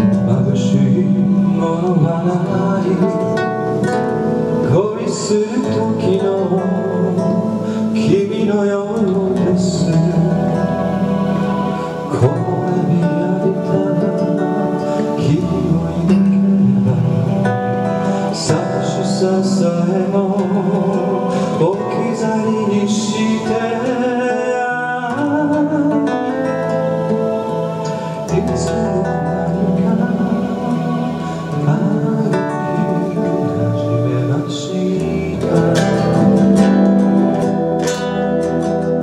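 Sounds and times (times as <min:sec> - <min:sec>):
electric guitar: 0:00.0 - 0:39.0
nylon-string guitar: 0:00.0 - 0:39.0.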